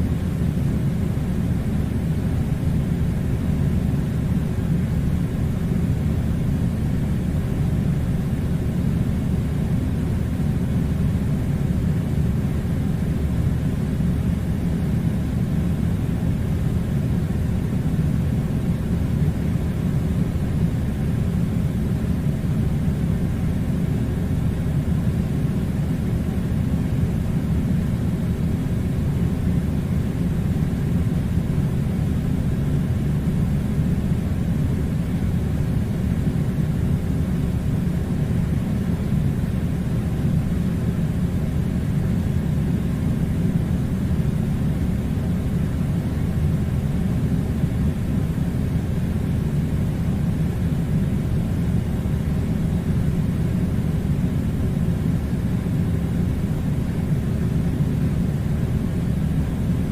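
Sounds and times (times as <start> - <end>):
air conditioner running: 0.0 - 59.9.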